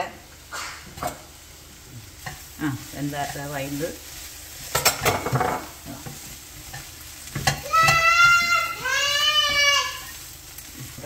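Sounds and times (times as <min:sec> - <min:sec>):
soft sizzle: 0:00.0 - 0:11.0
wooden spatula scraping a wok: 0:02.0 - 0:11.0.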